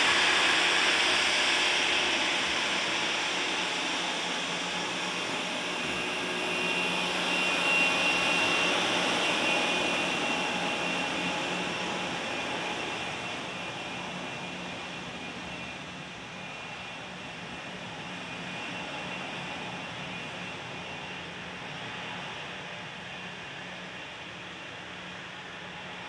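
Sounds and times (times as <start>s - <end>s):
jet engines hissing and whining: 0.0s - 26.0s.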